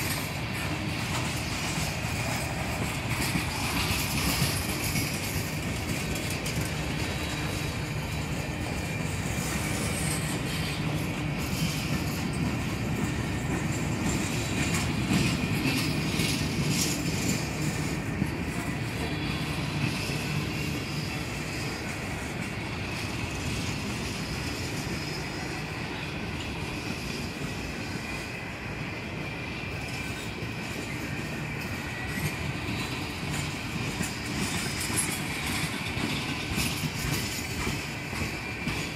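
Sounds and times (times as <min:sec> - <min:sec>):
freight wheels rumbling on track: 0:00.0 - 0:38.9
high wheel squeal: 0:00.0 - 0:38.9.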